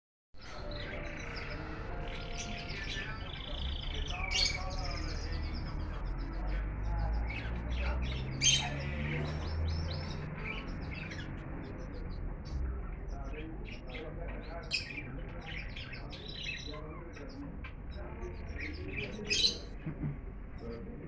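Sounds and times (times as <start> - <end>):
sharp bird calls: 0.4 - 19.8
canaries chirping and trilling: 0.4 - 21.0.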